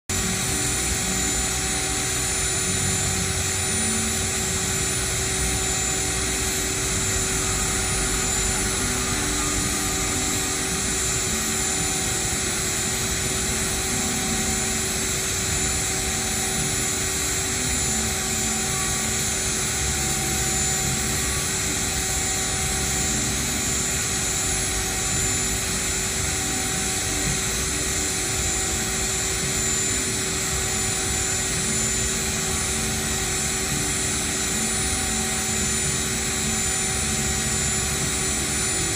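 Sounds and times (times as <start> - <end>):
cnc machine spindle whining: 0.1 - 38.9.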